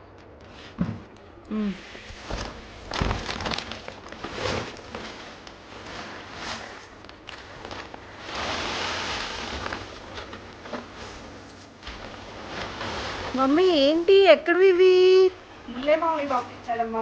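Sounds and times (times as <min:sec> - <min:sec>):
plants rustling: 0:01.5 - 0:17.0.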